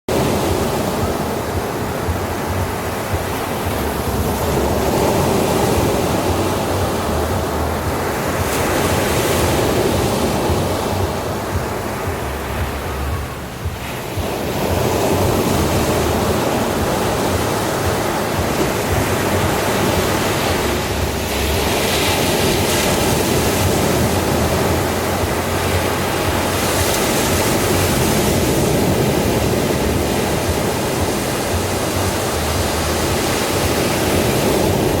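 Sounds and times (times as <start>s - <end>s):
sea waves washing onto beach: 0.1s - 35.0s.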